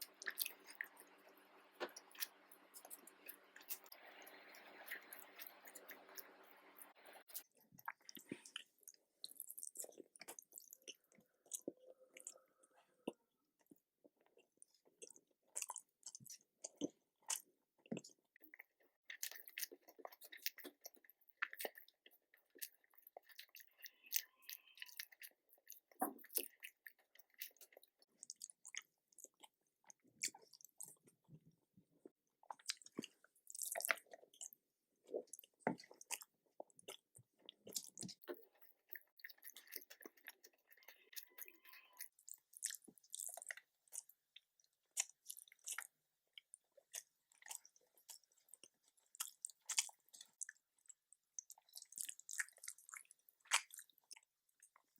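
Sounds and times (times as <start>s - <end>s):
person chewing with wet mouth sounds: 0.0s - 54.9s.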